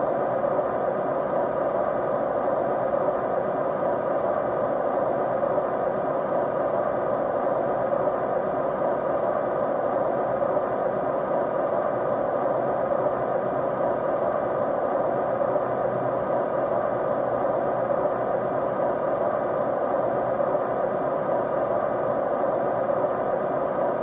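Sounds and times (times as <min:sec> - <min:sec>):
white noise: 0:00.0 - 0:24.0.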